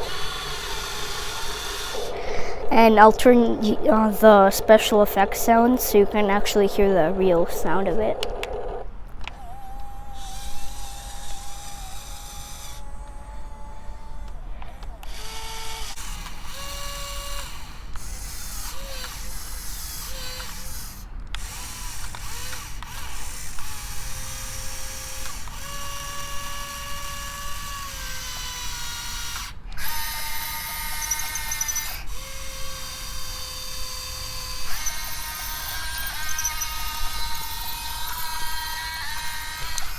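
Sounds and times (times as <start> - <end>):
electric motors whining: 0.0 - 39.9.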